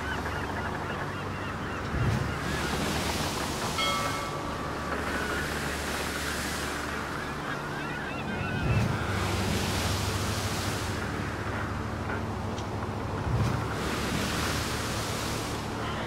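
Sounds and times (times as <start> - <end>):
birds calling faintly: 0.0 - 16.0
low steady hum: 0.0 - 16.0
surf washing ashore: 0.0 - 16.0.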